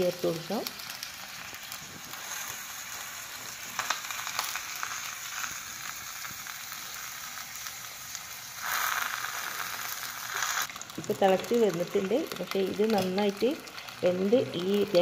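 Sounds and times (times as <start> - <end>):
curry boiling with sizzling hiss: 0.0 - 15.0
small crackles and pops: 0.0 - 15.0.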